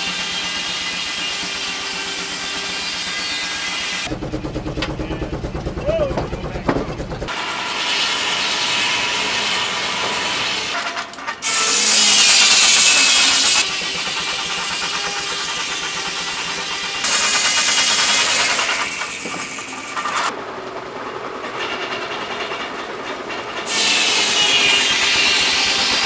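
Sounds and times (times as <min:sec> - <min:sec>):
circular saw cutting log: 0:00.0 - 0:05.0, 0:06.2 - 0:20.4, 0:21.5 - 0:26.0.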